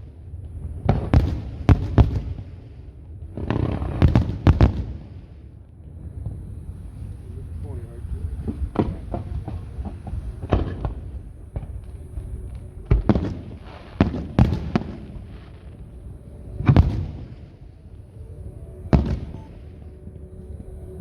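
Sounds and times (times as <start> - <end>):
fireworks booming: 0.0 - 18.0, 18.8 - 19.8.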